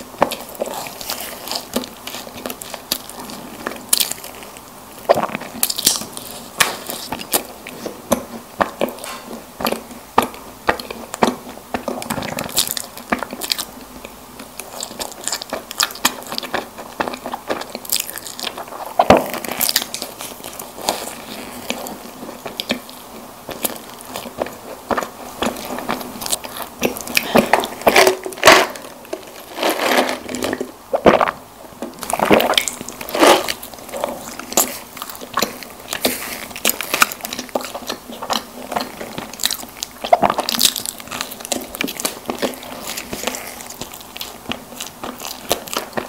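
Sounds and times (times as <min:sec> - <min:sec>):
chewing and biting snack cakes: 0:00.0 - 0:46.0.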